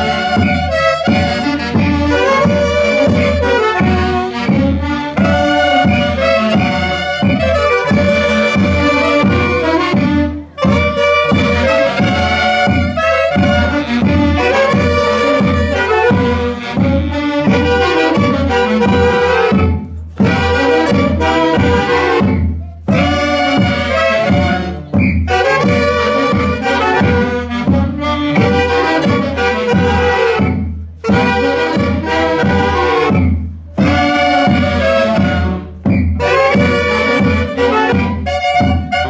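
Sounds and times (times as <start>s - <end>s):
big drum beating: 0.0s - 39.0s
saxophones clarinets and harp playing: 0.0s - 39.0s.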